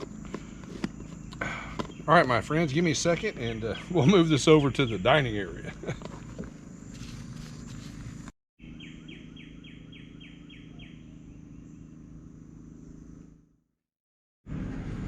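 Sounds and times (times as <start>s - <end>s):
songbird singing: 0.0s - 13.3s
insect drone: 0.0s - 13.6s
low hum: 0.0s - 13.6s, 14.5s - 15.0s.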